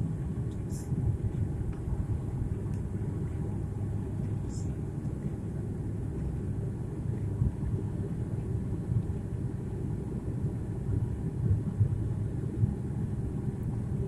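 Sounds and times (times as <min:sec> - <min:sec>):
airliner cabin drone: 0:00.0 - 0:14.0.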